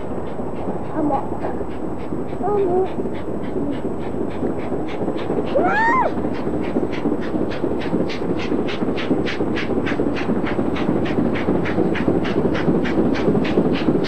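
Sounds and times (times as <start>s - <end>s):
steam locomotive exhaust beats: 0.0s - 14.0s.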